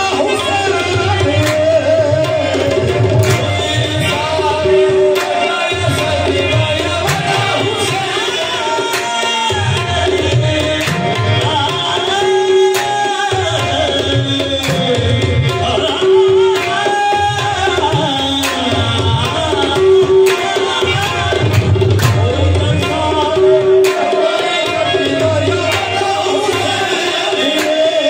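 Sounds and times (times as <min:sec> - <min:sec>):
harmoniums: 0:00.0 - 0:28.0
man singing: 0:00.0 - 0:28.0
tabla playing: 0:00.0 - 0:28.0.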